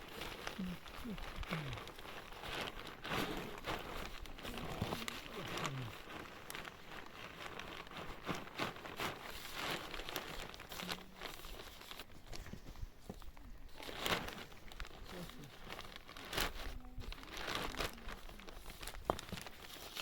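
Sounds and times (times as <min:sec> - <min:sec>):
crinkling and rustling: 0:00.0 - 0:20.0.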